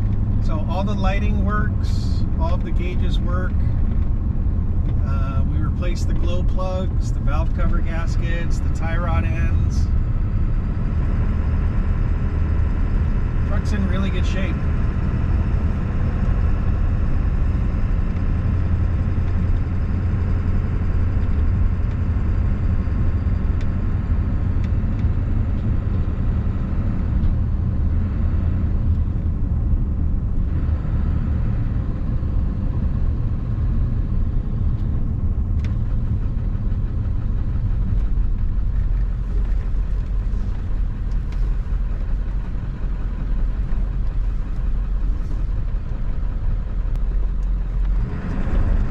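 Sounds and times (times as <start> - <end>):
truck diesel engine drone: 0.0 - 48.9.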